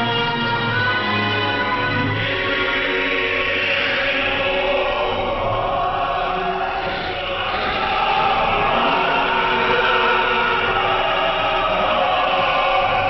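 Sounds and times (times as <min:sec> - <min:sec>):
choir singing with accompaniment: 0:00.0 - 0:13.0.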